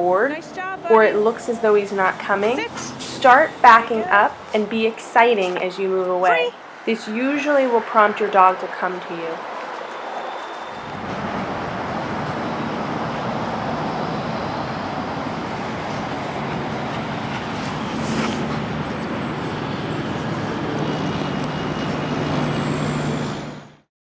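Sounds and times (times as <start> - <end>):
city street traffic: 0.0 - 23.9.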